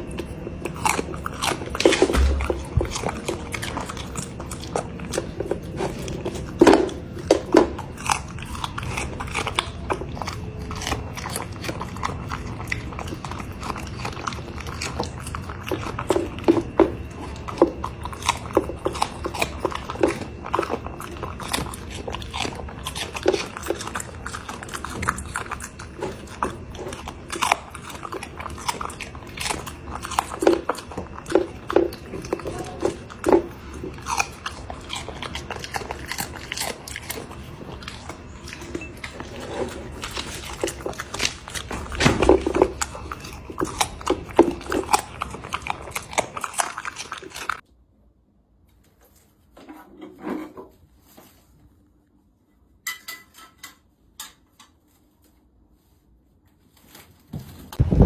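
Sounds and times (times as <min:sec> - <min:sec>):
cat crunching food: 0:00.0 - 0:47.6.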